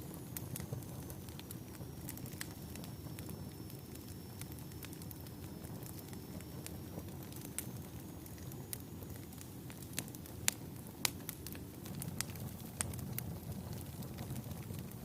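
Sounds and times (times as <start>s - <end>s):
fire crackles and pops: 0.0s - 15.0s
fire rumbling: 0.0s - 15.0s.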